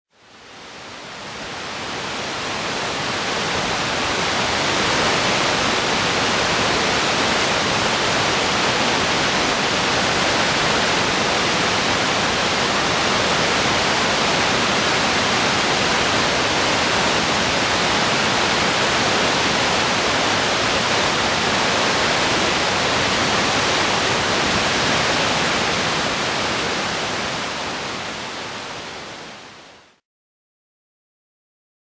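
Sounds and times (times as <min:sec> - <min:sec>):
waterfall roaring: 0:00.2 - 0:30.0.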